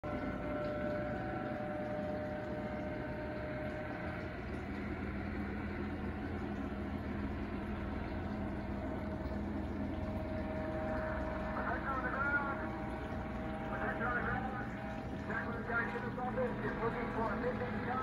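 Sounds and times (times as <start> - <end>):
helicopter drone overhead: 0.0 - 18.0.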